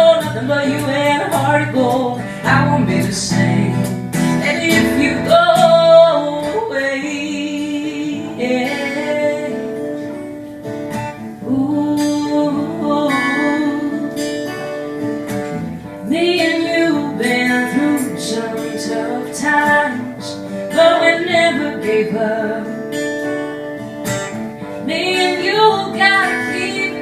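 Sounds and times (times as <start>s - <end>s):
woman singing: 0.0s - 10.2s, 11.4s - 14.8s, 15.8s - 23.6s, 24.6s - 27.0s
acoustic guitar strumming: 0.0s - 27.0s.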